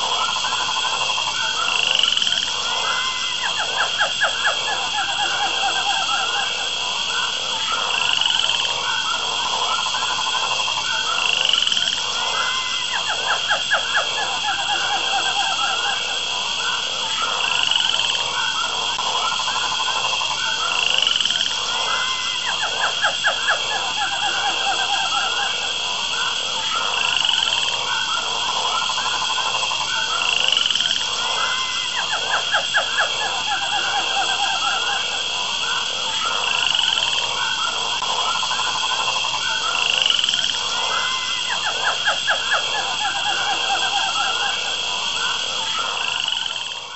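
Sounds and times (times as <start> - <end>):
rapid pulsed calls: 0.0 - 46.9.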